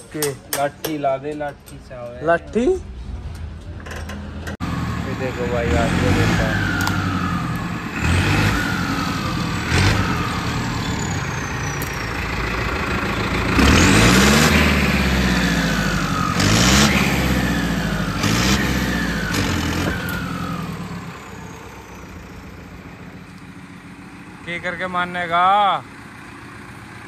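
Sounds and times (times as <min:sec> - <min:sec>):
tractor diesel engine revving: 0:02.8 - 0:27.0.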